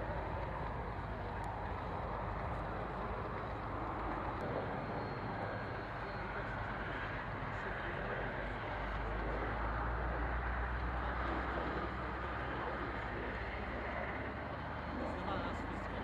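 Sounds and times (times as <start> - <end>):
aircraft engine hum: 0.0 - 16.0.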